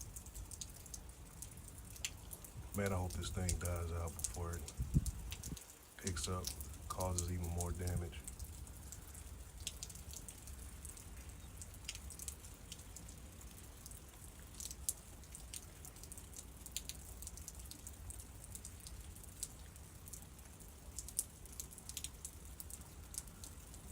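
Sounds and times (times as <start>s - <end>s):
raindrops ticking on hard surfaces: 0.0s - 23.9s.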